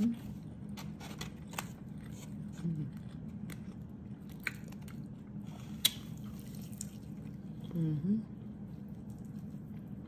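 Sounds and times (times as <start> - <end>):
chewing with mouth clicks: 1.3 - 7.8, 8.4 - 10.0.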